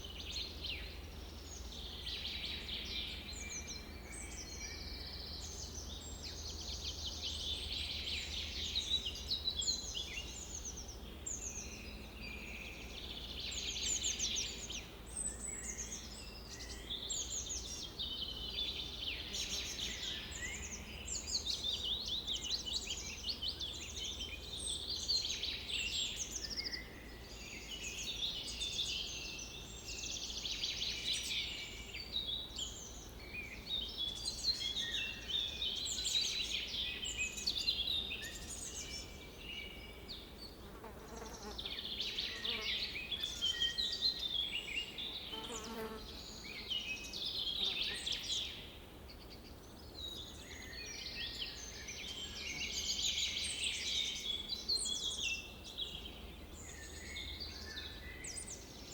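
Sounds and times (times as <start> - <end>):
songbirds trilling and chirping: 0.0 - 58.9.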